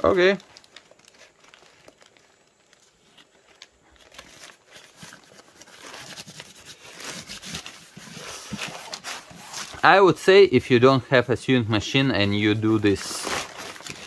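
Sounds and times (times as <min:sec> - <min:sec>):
fabric rustling and crinkling: 0:00.0 - 0:10.4, 0:11.8 - 0:14.0.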